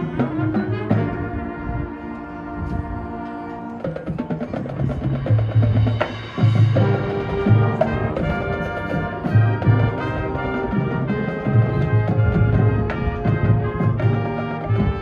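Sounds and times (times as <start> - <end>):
low brass notes: 0.0 - 15.0
marching band playing: 0.0 - 15.0.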